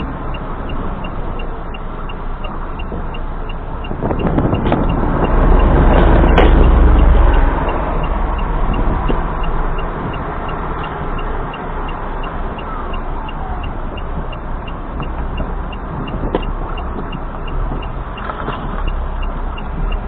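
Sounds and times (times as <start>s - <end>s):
car driving with road noise: 0.0s - 20.0s
faint regular ticking: 0.0s - 20.0s.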